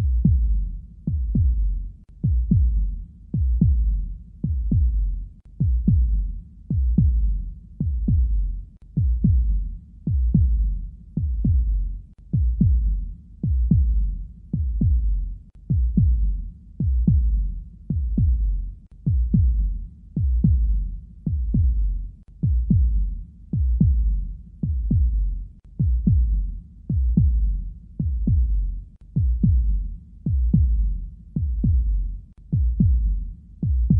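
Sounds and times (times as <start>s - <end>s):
heartbeat thumps: 0.0s - 33.9s.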